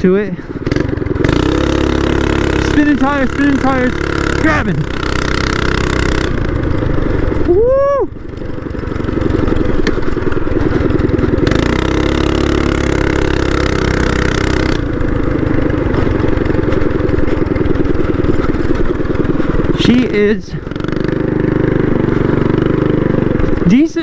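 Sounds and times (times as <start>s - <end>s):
mini bike engine running: 0.0s - 24.0s.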